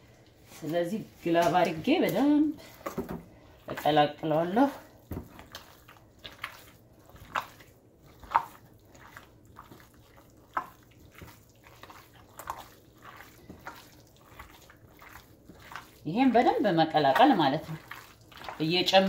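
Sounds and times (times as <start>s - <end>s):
wet squishing of kneaded meat: 0.0s - 19.0s.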